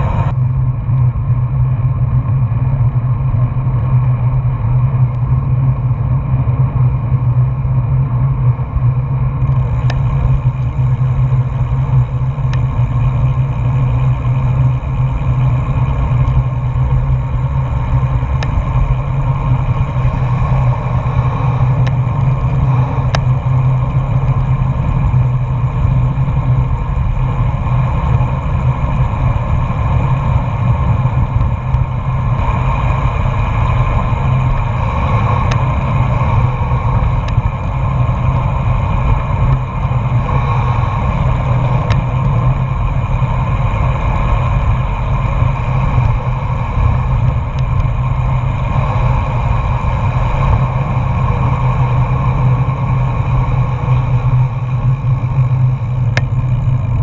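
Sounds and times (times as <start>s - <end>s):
tyre hum on asphalt: 0.0s - 57.0s.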